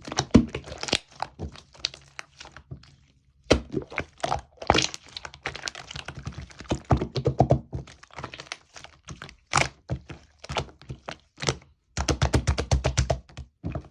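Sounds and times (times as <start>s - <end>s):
slime squished by hand: 0.0s - 2.7s, 3.4s - 13.3s.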